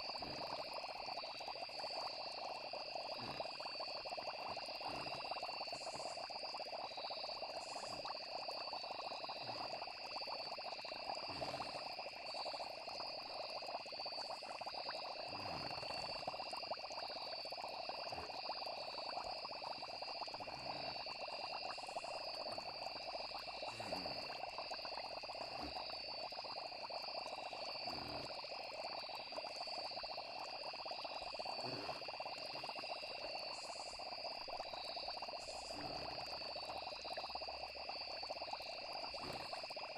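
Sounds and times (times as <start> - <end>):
frog chorus: 0.0 - 39.9
high insect trill: 0.0 - 39.9.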